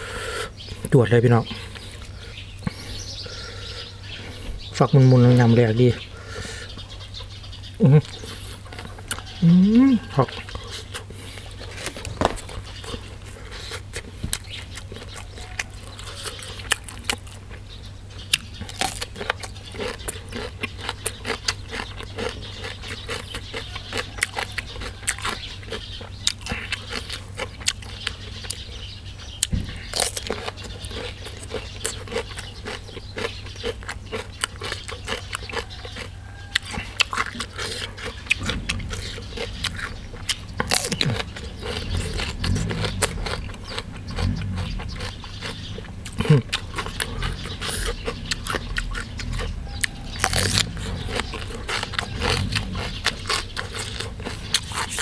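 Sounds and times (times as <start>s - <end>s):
chewing and crunching vegetables: 0.0s - 55.0s
steady low hum: 0.0s - 55.0s.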